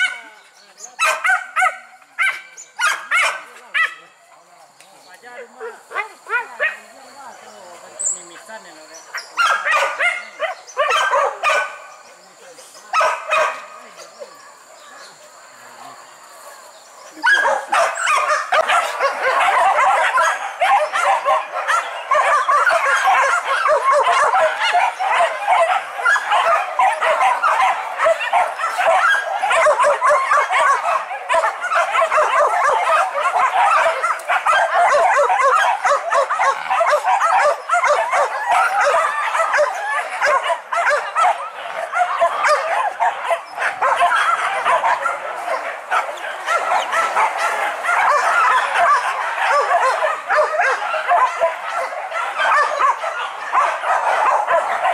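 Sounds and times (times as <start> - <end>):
pack of dogs barking and yelping: 0.0 - 54.9.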